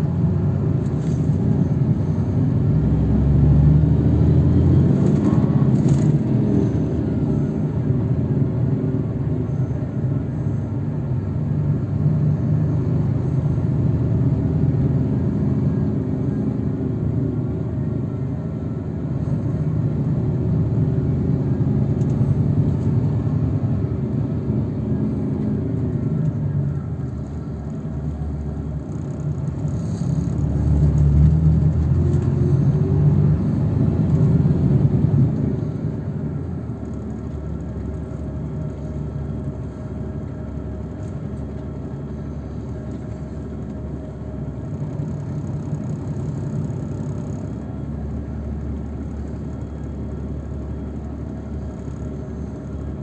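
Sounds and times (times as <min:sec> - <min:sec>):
engine and road rumble: 0:00.0 - 0:53.0.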